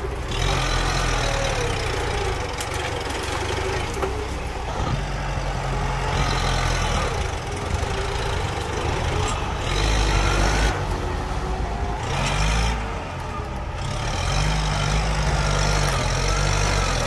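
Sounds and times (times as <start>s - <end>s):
dozer blade pushing earth: 0.0s - 17.0s
tractor diesel engine under load: 0.0s - 17.0s.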